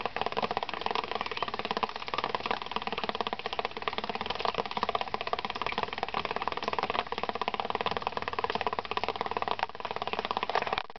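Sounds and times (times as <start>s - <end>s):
rain dripping on leaves: 0.0s - 10.9s.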